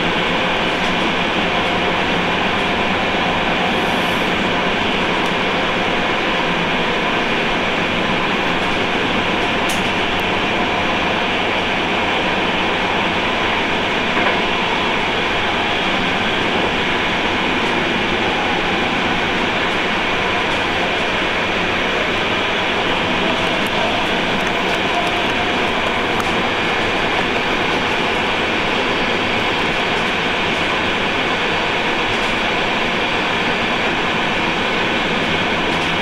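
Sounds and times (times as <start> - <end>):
train wheels rumbling at speed: 0.0 - 36.0.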